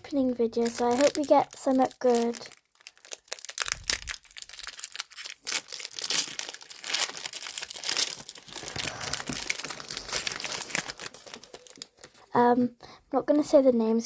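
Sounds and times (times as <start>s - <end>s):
foil wrapper tearing and crinkling: 0.5s - 12.2s.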